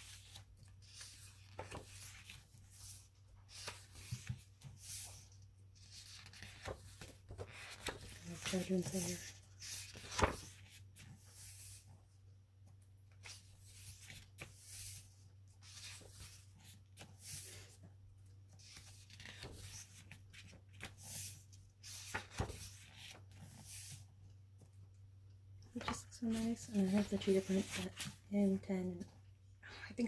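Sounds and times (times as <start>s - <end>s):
paper pages swishing and rustling: 0.0s - 11.9s, 13.2s - 17.8s, 18.5s - 24.1s, 25.8s - 28.6s.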